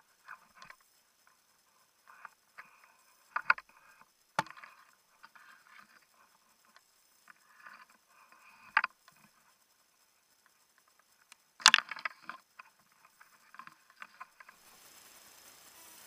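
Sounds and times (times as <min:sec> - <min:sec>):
branches rustling: 0:00.0 - 0:16.0.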